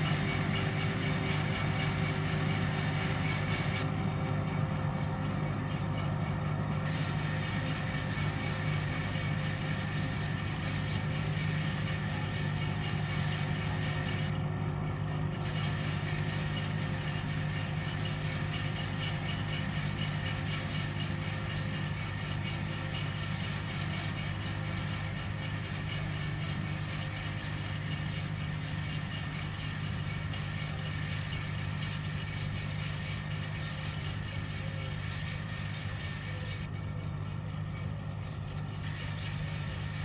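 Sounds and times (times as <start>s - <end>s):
tractor engine under load: 0.0s - 40.0s.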